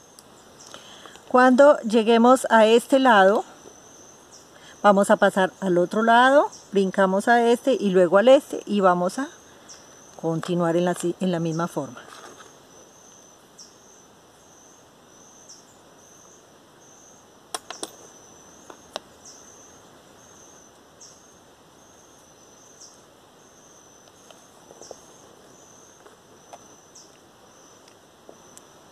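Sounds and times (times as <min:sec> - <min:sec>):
high-pitched insect trill: 0:00.0 - 0:28.9.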